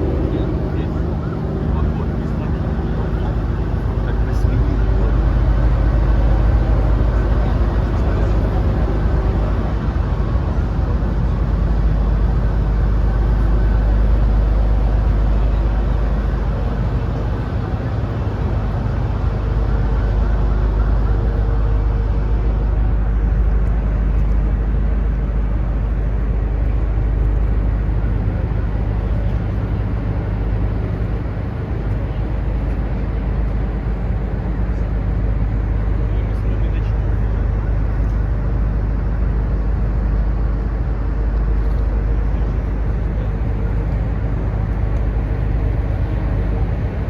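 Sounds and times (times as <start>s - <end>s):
ship engines droning: 0.0s - 47.0s.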